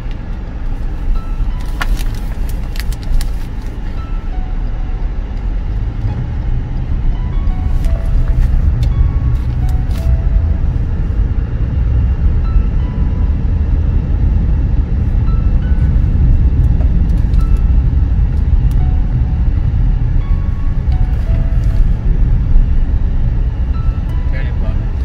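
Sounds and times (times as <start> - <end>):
car cabin road noise: 0.0 - 25.0
faint music: 0.2 - 25.0.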